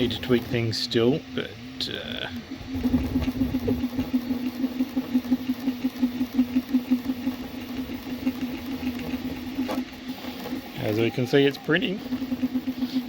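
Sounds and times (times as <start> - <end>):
fans hissing: 0.0 - 13.0
stepper motors humming: 0.0 - 13.0.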